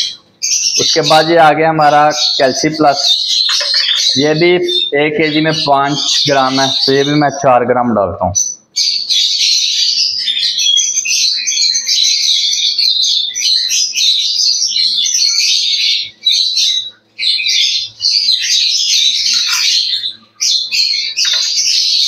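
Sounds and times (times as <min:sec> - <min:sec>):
flock of lovebirds chattering: 0:02.1 - 0:07.2, 0:08.4 - 0:22.0.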